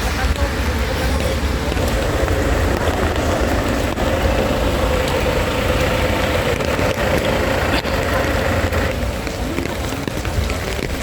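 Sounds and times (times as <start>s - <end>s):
rain hissing: 0.0s - 10.6s
vehicle rumble: 0.0s - 11.0s.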